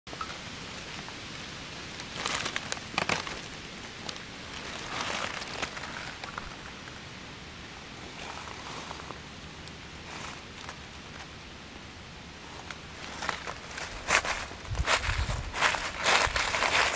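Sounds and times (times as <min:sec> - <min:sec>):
steady background hiss: 0:00.1 - 0:16.9
dry leaves rustling and crackling: 0:00.2 - 0:16.9.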